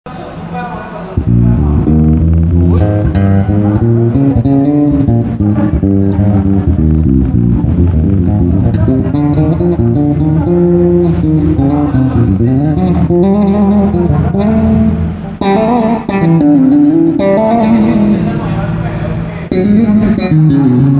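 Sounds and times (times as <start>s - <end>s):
electric bass plucked notes: 1.2s - 20.9s.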